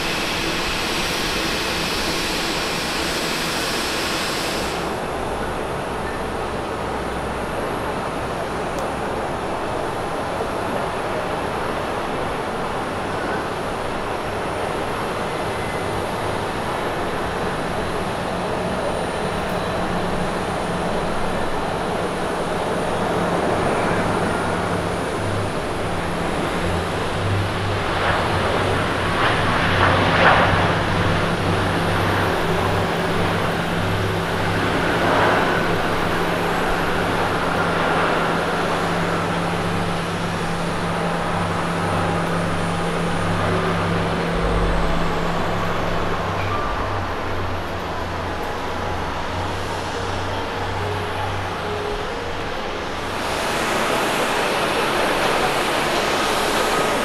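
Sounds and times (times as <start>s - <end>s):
jet airliner rollout rushing: 0.0s - 57.0s.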